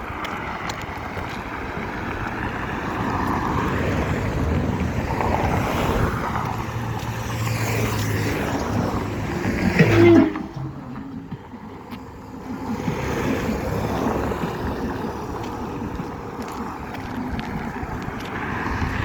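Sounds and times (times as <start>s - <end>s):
road traffic passing: 0.0s - 19.0s
wind noise on microphone: 0.0s - 19.0s.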